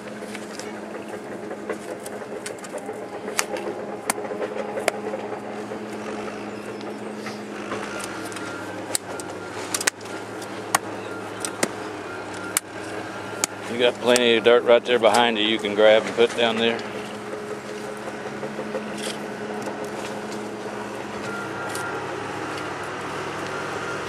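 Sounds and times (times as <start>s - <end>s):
sharp knocks and clicks: 0.0s - 22.8s
engine running steadily: 0.0s - 24.0s.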